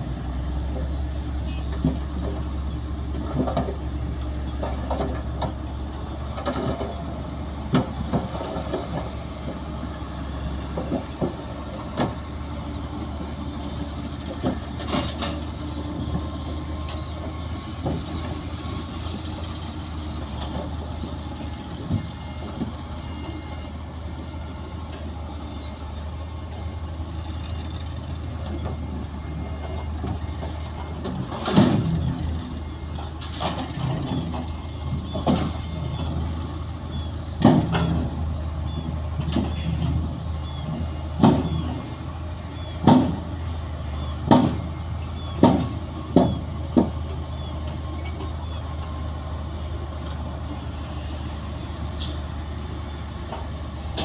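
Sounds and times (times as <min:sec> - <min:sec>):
diesel machinery humming: 0:00.0 - 0:54.0.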